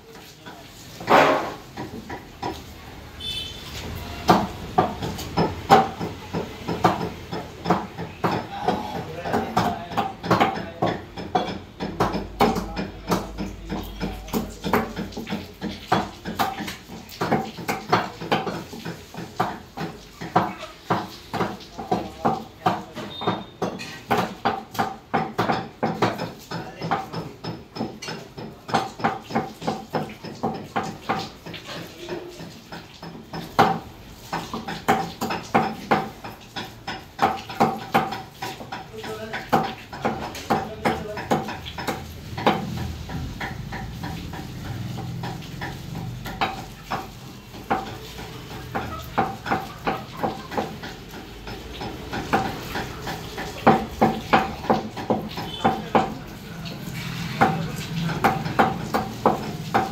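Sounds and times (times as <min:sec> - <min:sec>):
cleaver chopping on wooden block: 0:04.3 - 0:31.6, 0:32.4 - 0:56.1.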